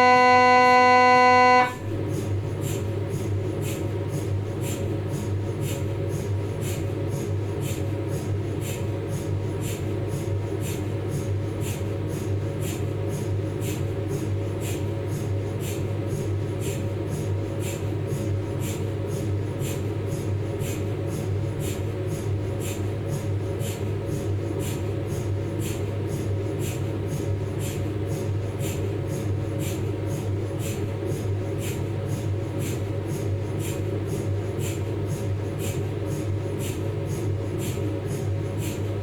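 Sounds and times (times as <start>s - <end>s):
mri scanner tapping rhythmically: 0.0s - 39.0s
steady low hum: 0.0s - 39.0s.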